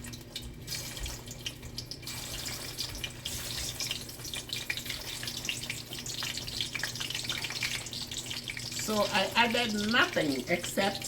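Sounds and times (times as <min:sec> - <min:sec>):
plantain frying in hot oil: 0:00.0 - 0:11.0.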